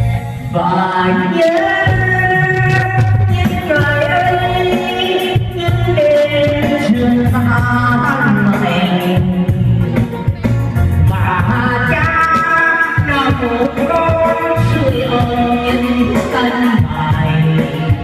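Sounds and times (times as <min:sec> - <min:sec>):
singing voice over bass notes: 0:00.0 - 0:18.0.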